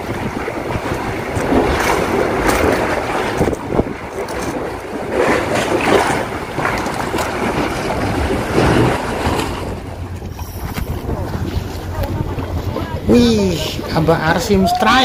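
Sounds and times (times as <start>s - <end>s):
sea waves washing: 0.0s - 15.0s
wind gusting on microphone: 0.0s - 15.0s.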